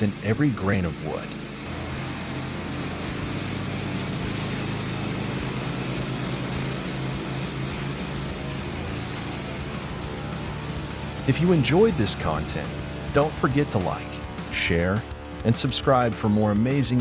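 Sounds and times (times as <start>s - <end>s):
thin high whine: 0.0s - 15.3s
motor hum: 0.0s - 15.8s.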